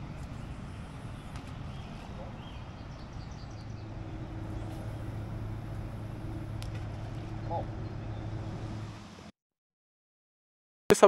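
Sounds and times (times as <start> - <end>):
low electrical hum: 0.0 - 9.3.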